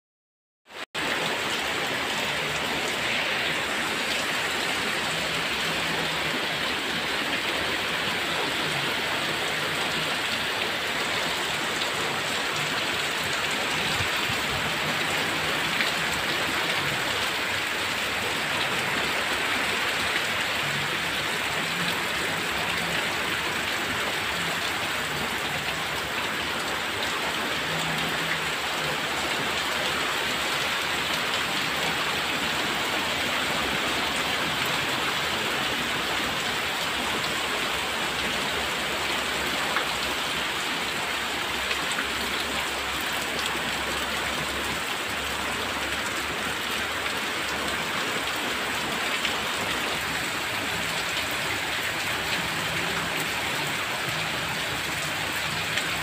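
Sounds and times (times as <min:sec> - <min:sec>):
heavy rain on grass: 0:00.7 - 0:56.0.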